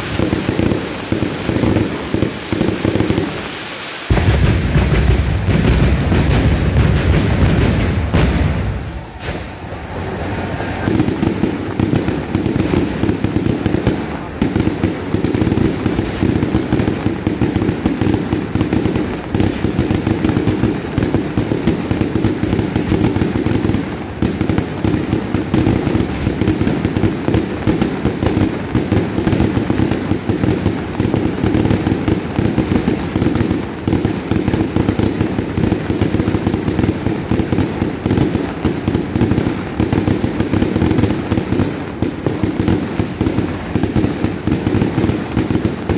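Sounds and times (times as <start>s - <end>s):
fireworks banging and crackling: 0.0s - 45.9s.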